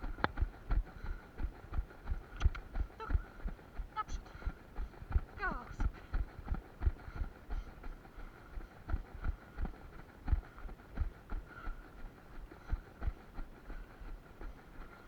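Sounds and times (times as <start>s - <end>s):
running footsteps: 0.0s - 15.0s.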